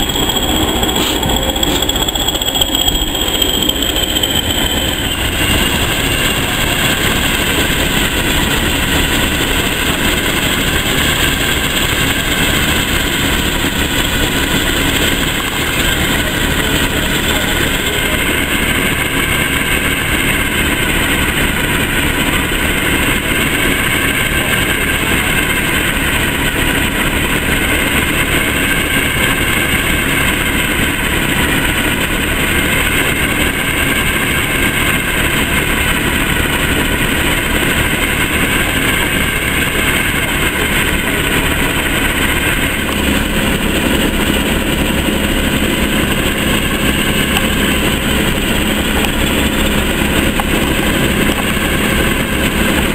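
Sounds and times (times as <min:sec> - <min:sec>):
diesel locomotive engine idling: 0:00.0 - 0:52.9
low hum: 0:00.0 - 0:52.9.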